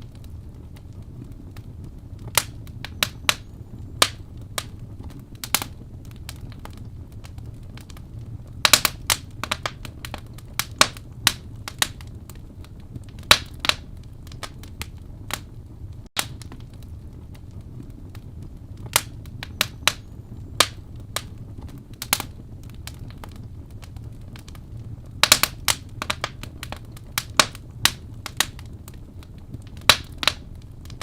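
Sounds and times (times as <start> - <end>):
low hiss of burning: 0.0 - 31.0
wood fire crackling: 0.0 - 31.0.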